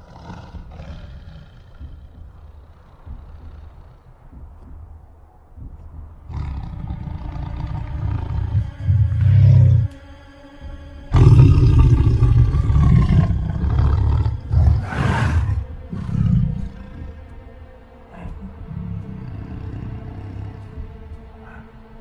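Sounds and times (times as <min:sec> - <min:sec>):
tiger growling deeply: 0:00.0 - 0:04.4, 0:05.9 - 0:22.0.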